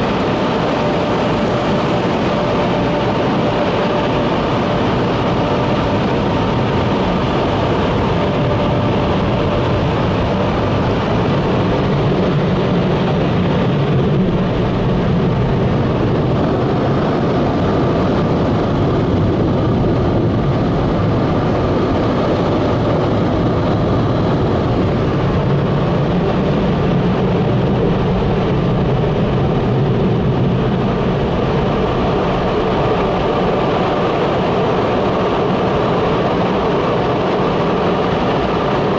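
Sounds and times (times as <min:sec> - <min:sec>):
car wash machinery rushing: 0:00.0 - 0:38.9.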